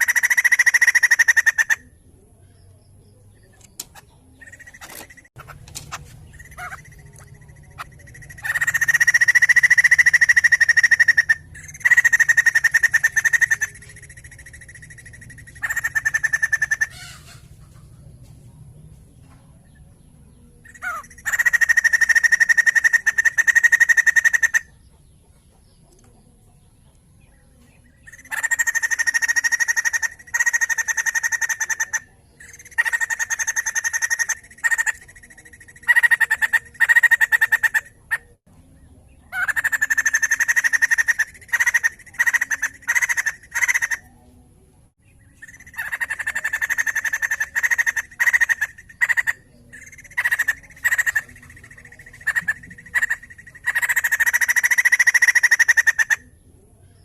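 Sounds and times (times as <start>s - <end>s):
bird chattering loudly: 0.0s - 2.0s, 3.8s - 17.8s, 20.6s - 24.8s, 28.0s - 38.4s, 39.3s - 44.1s, 45.4s - 56.4s.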